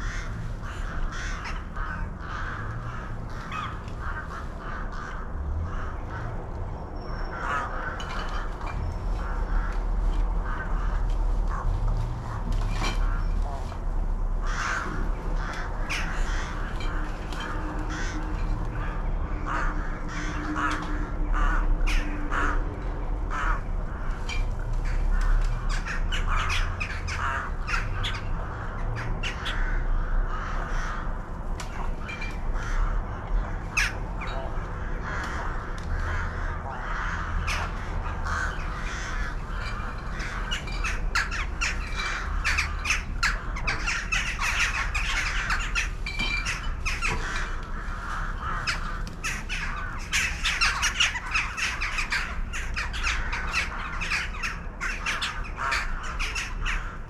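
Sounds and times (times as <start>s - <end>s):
birds calling harshly: 0.0s - 57.0s.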